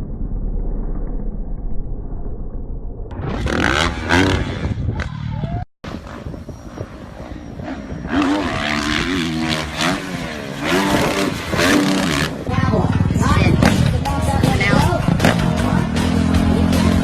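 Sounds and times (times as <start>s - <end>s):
dirt bike engines revving: 3.2s - 17.0s.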